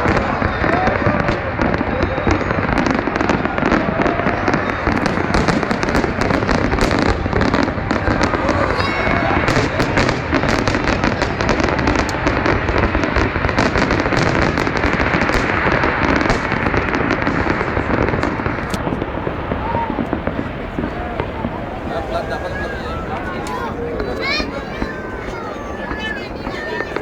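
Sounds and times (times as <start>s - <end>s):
fireworks cracking and popping: 0.0s - 27.0s
high firework whistle: 0.0s - 27.0s.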